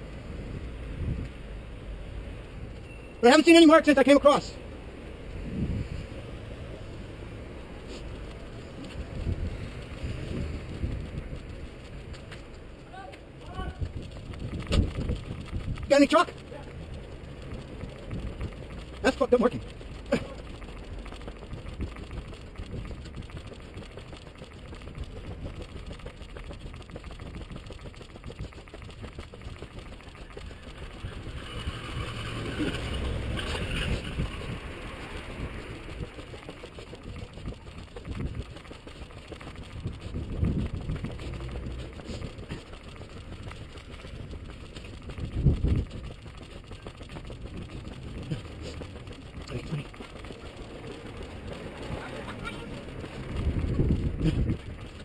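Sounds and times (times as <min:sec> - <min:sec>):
low rumble of wind: 0:00.0 - 0:55.0
street traffic: 0:00.0 - 0:55.0.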